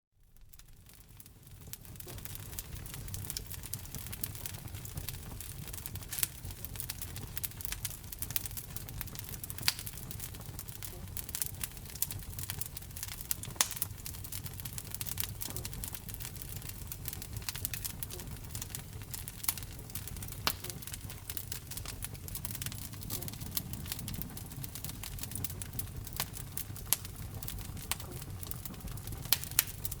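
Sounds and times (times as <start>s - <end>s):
wood fire crackling and popping: 0.2s - 30.0s.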